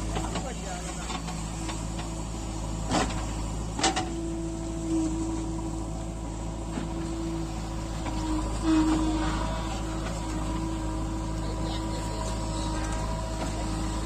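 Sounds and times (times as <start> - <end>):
machine engine humming: 0.0 - 14.0.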